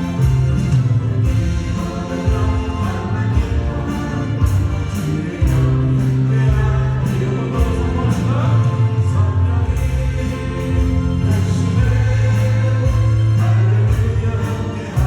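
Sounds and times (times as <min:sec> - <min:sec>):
acoustic guitar: 0:00.0 - 0:15.0
drums: 0:00.0 - 0:15.0
keyboards: 0:00.0 - 0:15.0
people singing: 0:00.0 - 0:15.0.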